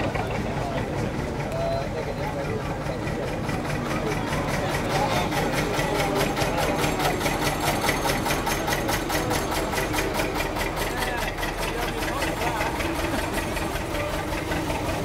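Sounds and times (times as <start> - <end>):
diesel boat engine chugging: 0.0 - 15.0.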